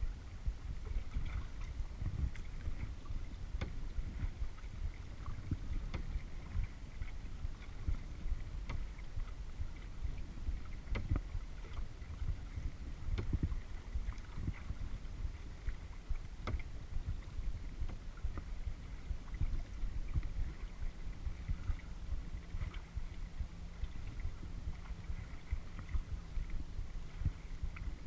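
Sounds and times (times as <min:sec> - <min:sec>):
wind rumble on microphone: 0:00.0 - 0:28.0
water splashing off paddle: 0:00.8 - 0:28.0.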